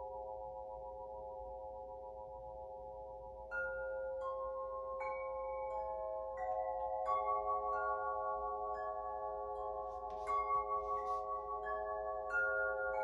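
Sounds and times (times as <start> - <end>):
ringing chimes: 0.0 - 13.0.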